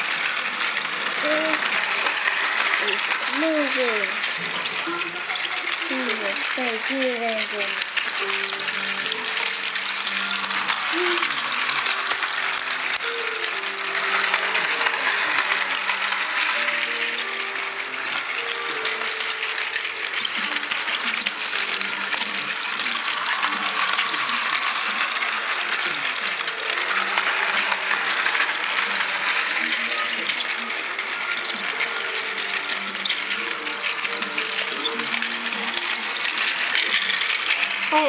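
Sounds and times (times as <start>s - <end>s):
rapid fine clicking and rattling: 0.0s - 38.0s
toy train gearbox whir: 0.0s - 38.0s.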